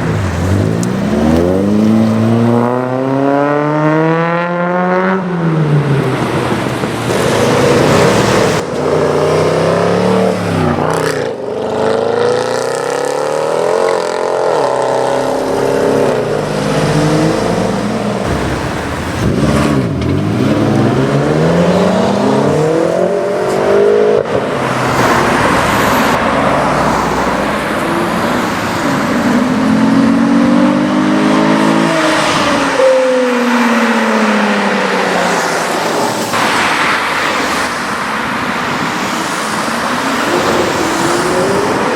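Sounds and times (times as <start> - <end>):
car engines accelerating hard: 0.0 - 41.9.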